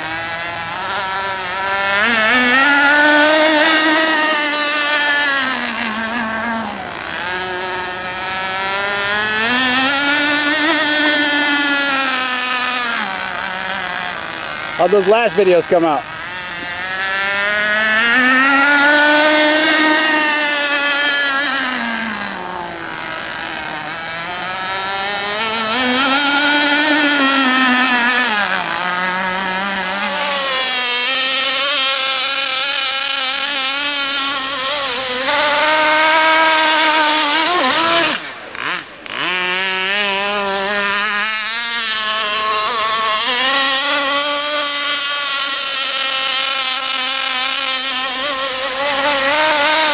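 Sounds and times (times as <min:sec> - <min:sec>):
racing boat high buzzing whine: 0:00.0 - 0:49.9.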